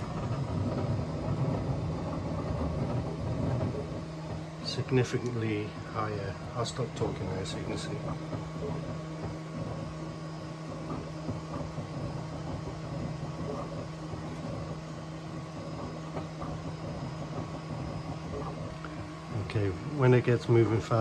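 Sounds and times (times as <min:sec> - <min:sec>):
three d printer humming: 0:00.0 - 0:21.0.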